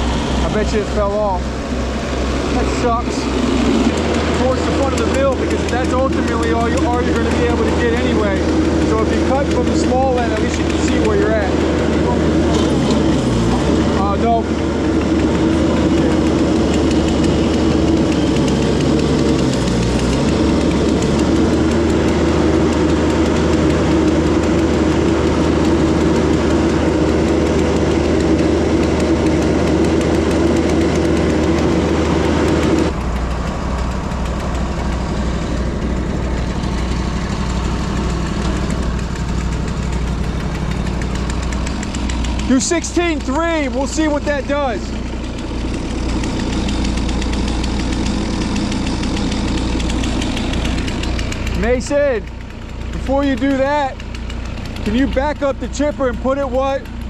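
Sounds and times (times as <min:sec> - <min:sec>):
sawmill gas engine running: 0:00.0 - 0:57.0.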